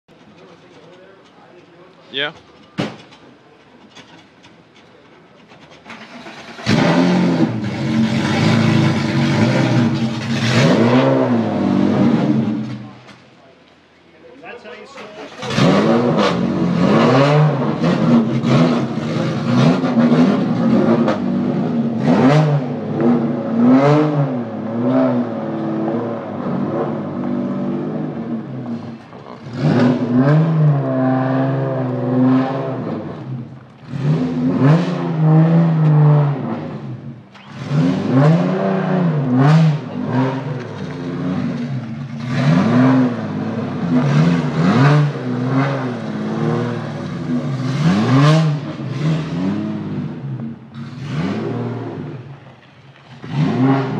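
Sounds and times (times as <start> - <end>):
car engine revving: 5.4 - 13.2, 15.0 - 53.9.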